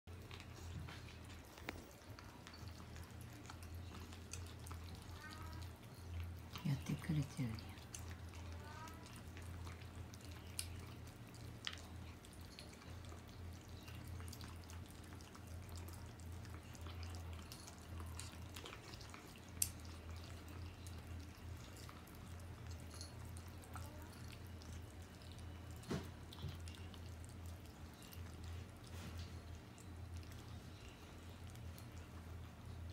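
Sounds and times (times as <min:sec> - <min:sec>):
cats chewing: 0:00.1 - 0:32.9
low steady hum: 0:00.1 - 0:32.9.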